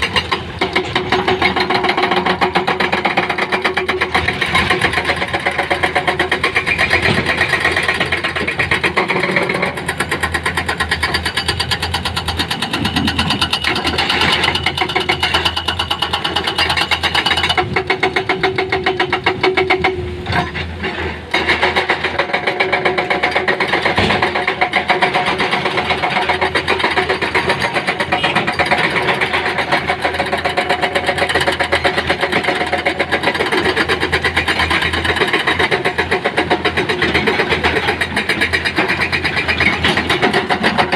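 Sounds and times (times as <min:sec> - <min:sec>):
engine running with clatter: 0:00.0 - 0:40.9.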